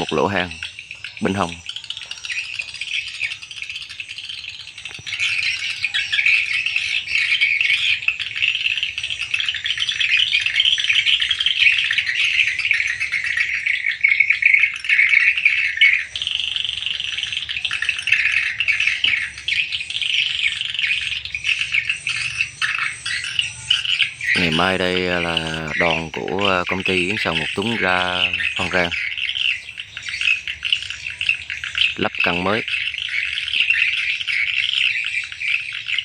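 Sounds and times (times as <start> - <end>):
swiftlets twittering: 0.0 - 35.9.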